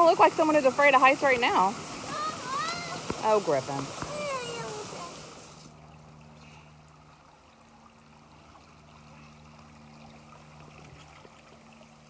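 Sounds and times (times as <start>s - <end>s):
water trickling in a creek: 0.0s - 12.0s.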